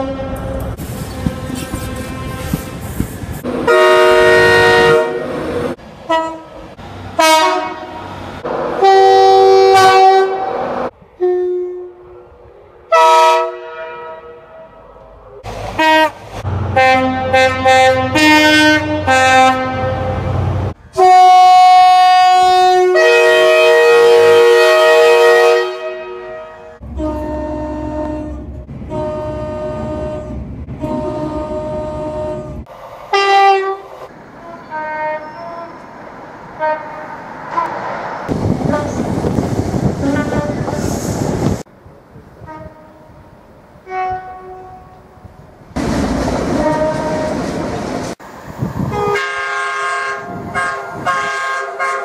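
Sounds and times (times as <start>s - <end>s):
train horn blasts: 0.0s - 6.6s, 7.2s - 8.1s, 8.8s - 12.2s, 12.9s - 15.0s, 15.8s - 35.8s, 36.6s - 37.8s, 38.6s - 39.1s, 40.0s - 40.9s, 42.4s - 43.2s, 43.8s - 45.2s, 46.6s - 47.3s, 48.8s - 52.0s
passing train rumble: 0.0s - 52.0s.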